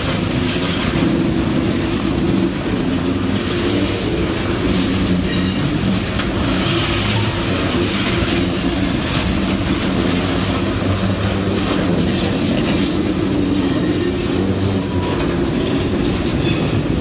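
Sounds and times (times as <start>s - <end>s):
steel train wheels on rails: 0.0s - 17.0s.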